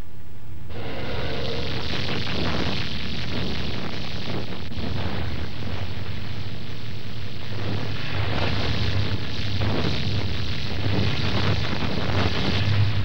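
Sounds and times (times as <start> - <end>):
crackles and small pops: 1.8 - 13.0.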